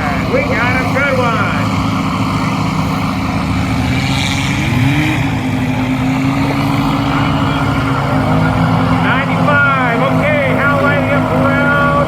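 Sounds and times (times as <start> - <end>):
aircraft piston engine and propeller: 0.0 - 12.0.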